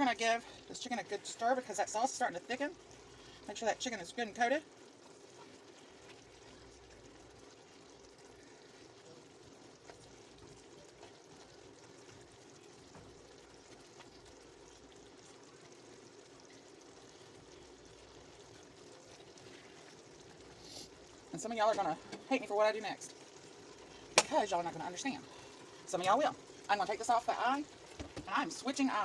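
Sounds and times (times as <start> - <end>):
pots simmering and bubbling: 0.0 - 29.0.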